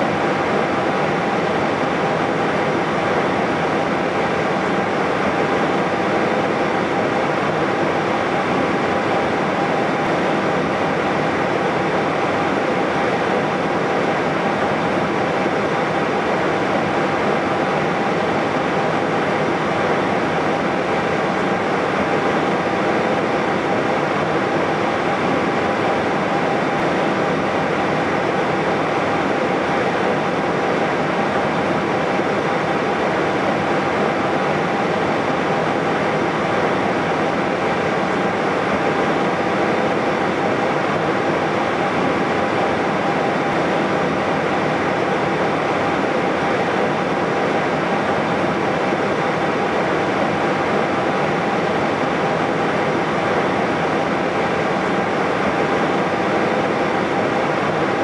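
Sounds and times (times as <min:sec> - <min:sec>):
jet engines idling in cockpit: 0:00.0 - 0:58.0.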